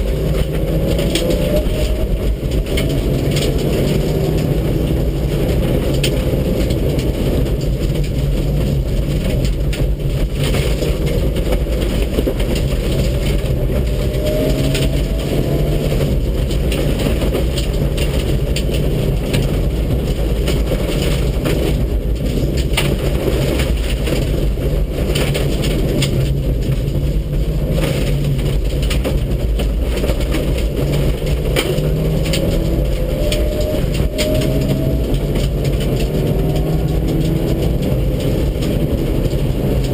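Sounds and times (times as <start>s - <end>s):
rally car engine running hard: 0.0s - 39.9s
sharp clicks and rattles: 0.0s - 39.9s
tyre and road noise: 0.0s - 39.9s.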